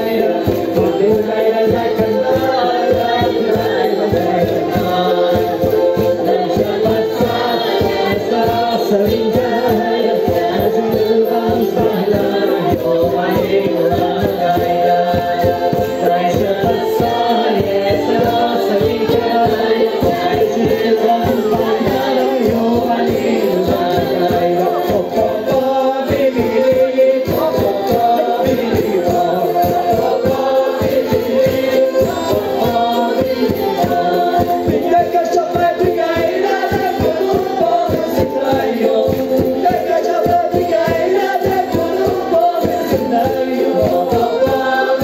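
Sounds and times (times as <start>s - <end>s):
brisk percussion beat: 0.0s - 45.0s
group singing together: 0.0s - 45.0s.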